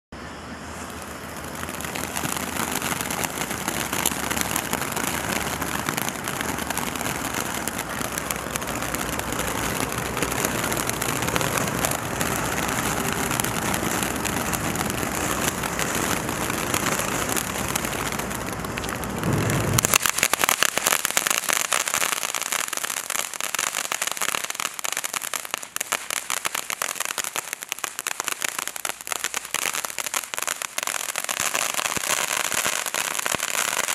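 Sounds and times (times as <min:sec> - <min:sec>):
firework crackling: 0:00.2 - 0:33.9
fountain firework hissing: 0:00.2 - 0:33.9.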